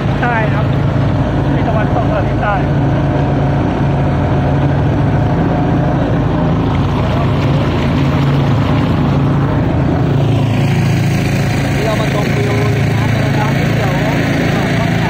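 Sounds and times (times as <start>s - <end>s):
boat engine droning: 0.0s - 15.0s
rushing water: 0.0s - 15.0s.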